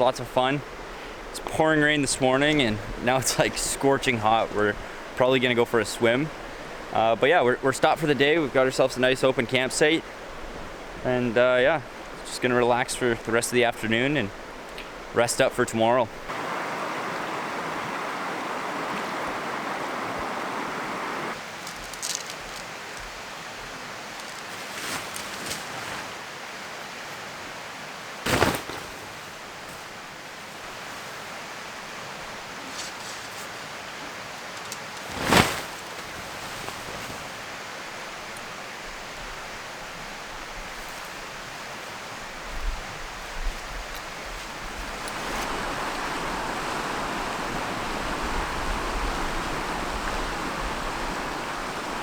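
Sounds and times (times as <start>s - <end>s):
river water rushing: 0.0s - 32.7s, 33.4s - 52.0s.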